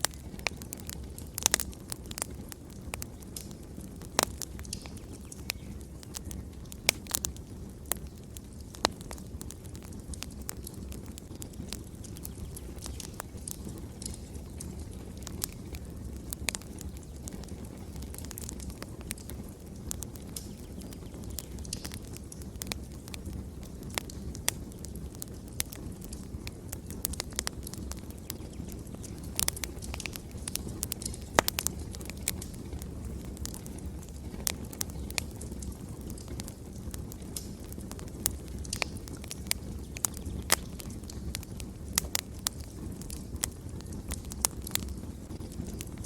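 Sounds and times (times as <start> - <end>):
fire flames rumbling: 0.0 - 46.0
logs crackling and popping: 0.0 - 46.0.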